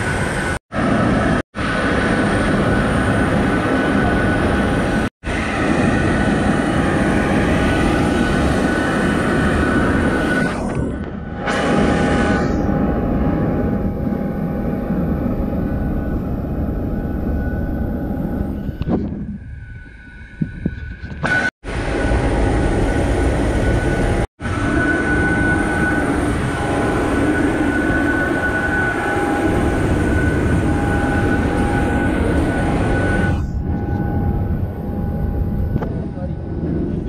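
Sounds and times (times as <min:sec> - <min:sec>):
jet airliner engine whine and rush: 0:00.0 - 0:37.0.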